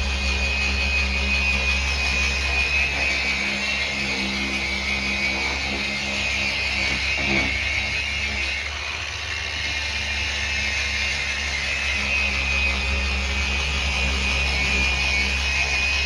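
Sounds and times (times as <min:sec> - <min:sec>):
power tool polisher whirring: 0:00.0 - 0:16.0.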